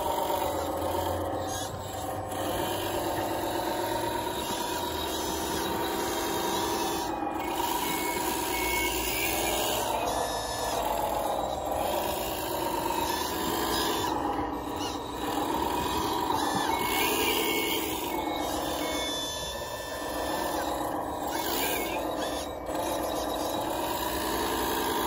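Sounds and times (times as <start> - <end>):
electric pump motors whining: 0.0 - 25.0.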